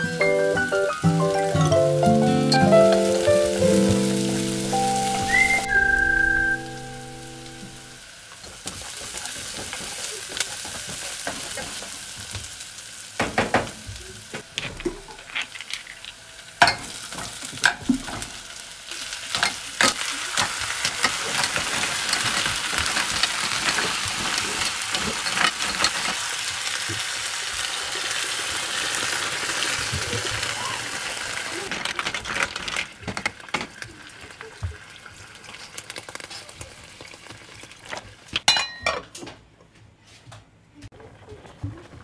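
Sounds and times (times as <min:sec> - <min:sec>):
vegetables sizzling in a pot: 0:00.0 - 0:38.4.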